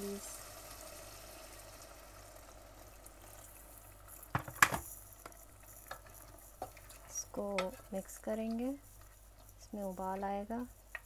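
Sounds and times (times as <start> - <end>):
water poured hissing and sizzling: 0.0 - 11.0.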